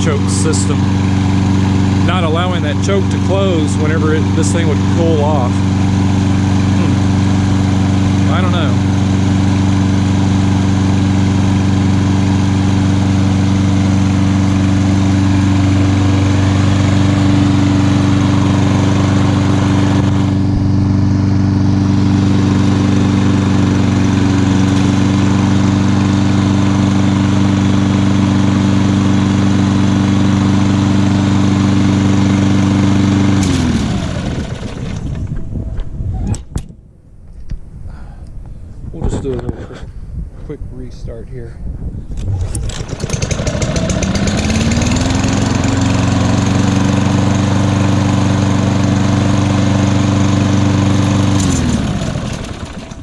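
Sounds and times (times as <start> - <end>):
lawn mower engine running: 0.0 - 35.9, 42.2 - 53.0.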